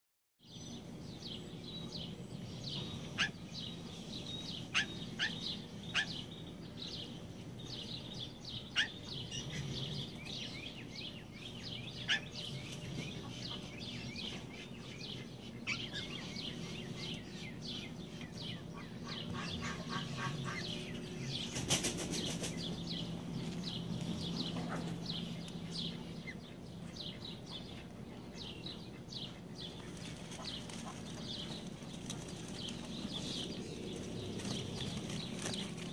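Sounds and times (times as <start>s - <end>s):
birds chirping: 0.4s - 35.9s
steady low hum: 0.5s - 35.9s.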